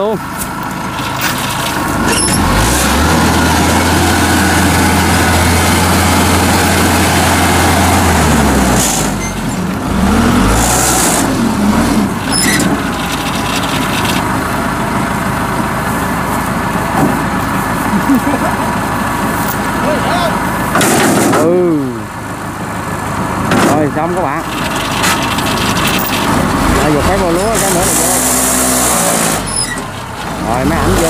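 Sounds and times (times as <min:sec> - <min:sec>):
combine harvester diesel engine: 0:00.0 - 0:31.0.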